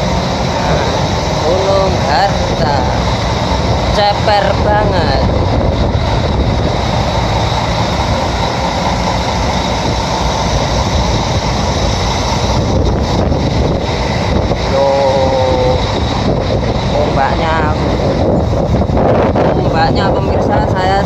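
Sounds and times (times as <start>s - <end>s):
ferry engine drone: 0.0s - 21.0s
wind and sea rushing: 0.0s - 21.0s.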